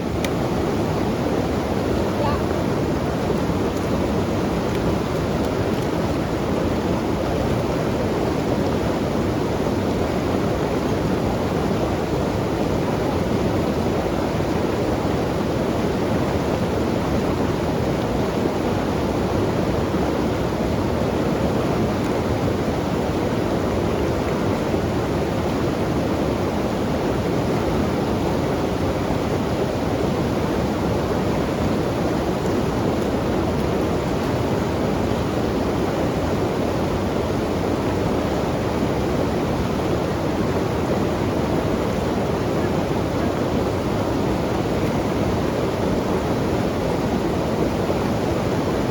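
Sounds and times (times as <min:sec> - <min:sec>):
fast river rushing: 0:00.0 - 0:48.9.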